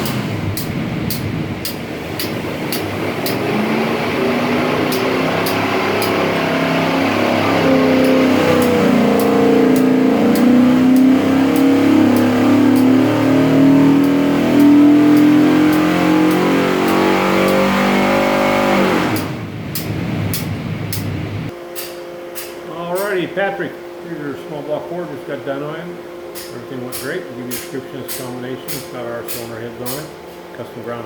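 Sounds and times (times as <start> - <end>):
engine revving under load: 0.0 - 21.6, 22.5 - 31.0.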